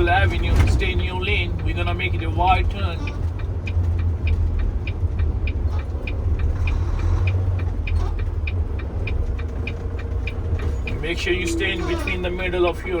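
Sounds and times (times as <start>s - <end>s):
diesel truck engine rumbling: 0.0s - 13.0s
turn signal clicking: 0.0s - 13.0s.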